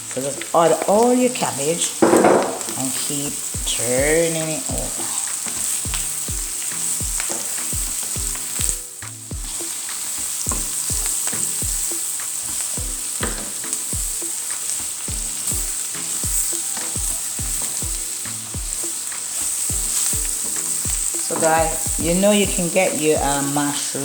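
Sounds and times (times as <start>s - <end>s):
vegetables sizzling in a frying pan: 0.0s - 24.0s
spoon knocking and scraping pan: 2.0s - 23.6s.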